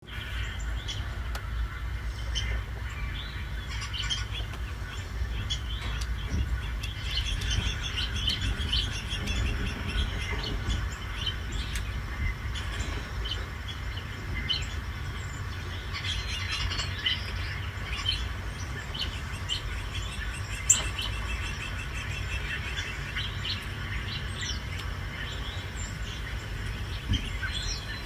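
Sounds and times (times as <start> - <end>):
birds chirping: 0.0 - 28.0
steady low rumble: 0.0 - 28.0.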